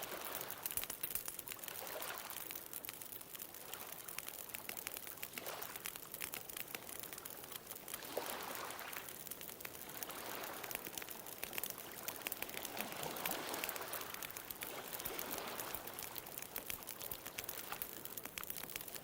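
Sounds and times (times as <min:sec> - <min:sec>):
bonfire crackling and popping: 0:00.0 - 0:19.0
small ocean waves washing in: 0:00.0 - 0:19.0.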